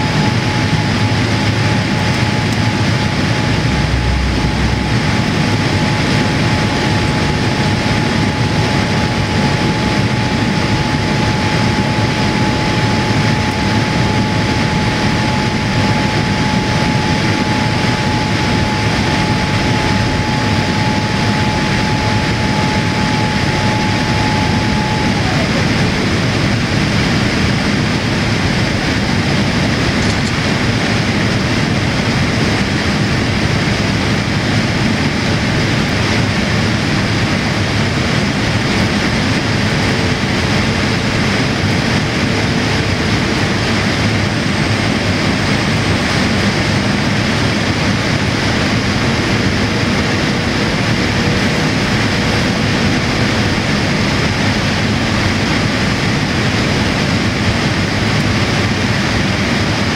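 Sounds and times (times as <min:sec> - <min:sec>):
airflow rushing over fuselage: 0:00.0 - 0:59.9
jet engines droning: 0:00.0 - 0:59.9.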